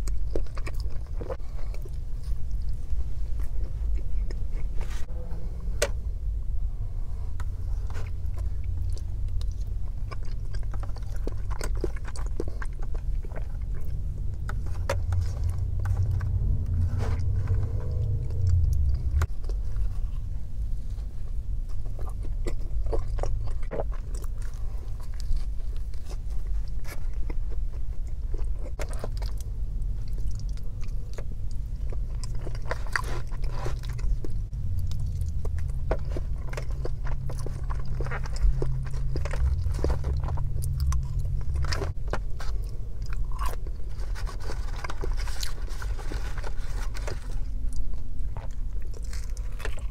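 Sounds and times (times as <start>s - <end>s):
chewing and biting food: 0.0s - 5.1s, 7.3s - 49.9s
low rumble: 0.0s - 49.9s.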